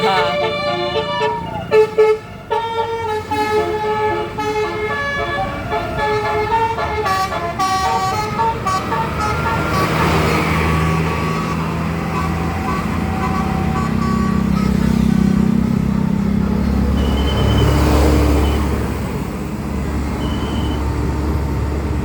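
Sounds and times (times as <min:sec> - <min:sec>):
heavy engine running low: 0:00.0 - 0:22.0
vehicle passing close: 0:00.0 - 0:22.0.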